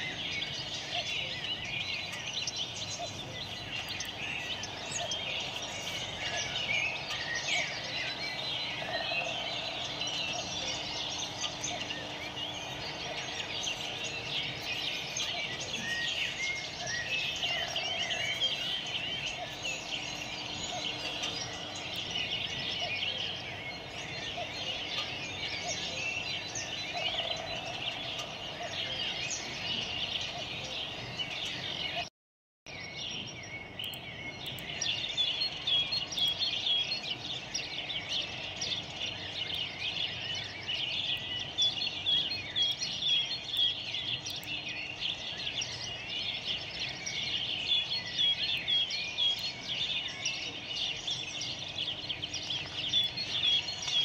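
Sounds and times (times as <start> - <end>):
small birds chirping: 0.0 - 32.1, 32.7 - 54.0.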